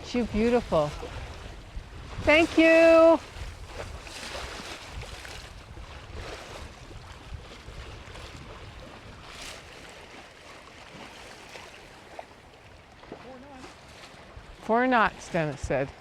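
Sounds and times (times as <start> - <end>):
water washing along boat hull: 0.0 - 16.0
wind rumble on microphone: 0.0 - 16.0.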